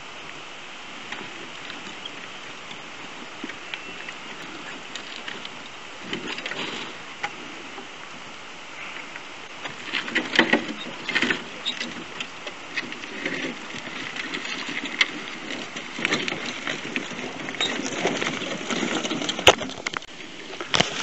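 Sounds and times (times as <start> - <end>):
steady background hiss: 0.0 - 21.0
wheels crunching over stones: 0.0 - 21.0.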